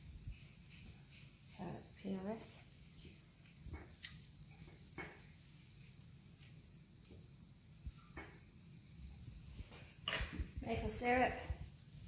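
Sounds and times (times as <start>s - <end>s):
batter sizzling on hot plate: 0.0s - 12.0s.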